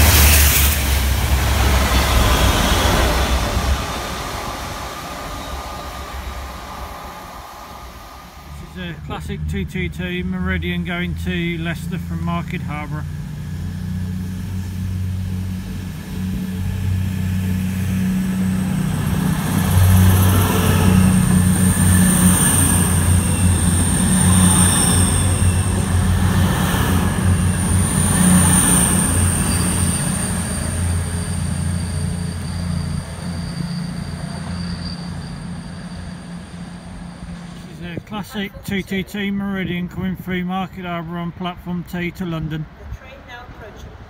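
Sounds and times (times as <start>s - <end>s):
diesel train engine hum: 0.0s - 44.0s
high train whine: 0.0s - 44.0s.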